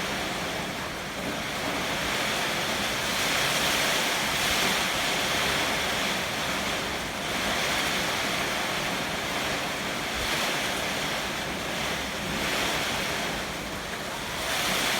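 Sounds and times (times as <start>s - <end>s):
heavy rain: 0.0s - 14.9s.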